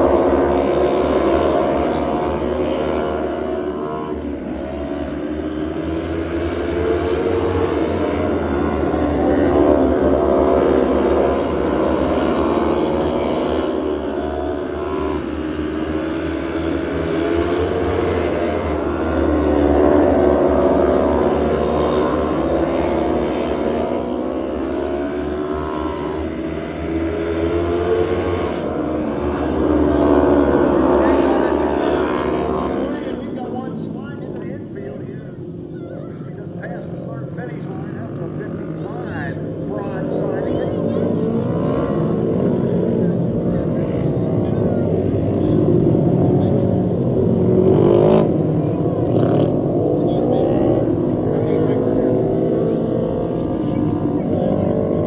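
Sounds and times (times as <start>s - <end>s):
race car engines: 0.0s - 55.0s.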